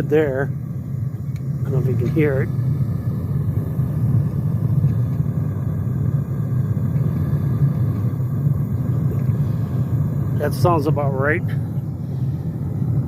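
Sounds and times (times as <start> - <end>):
gas burner rumbling: 0.0 - 13.0.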